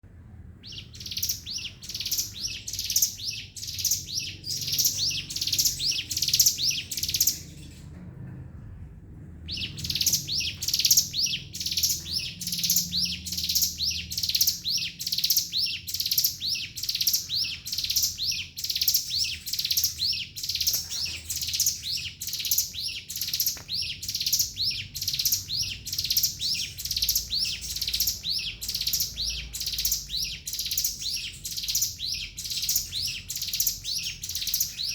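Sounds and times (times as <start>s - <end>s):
bird singing high rising notes: 0.6s - 7.6s, 9.5s - 34.9s.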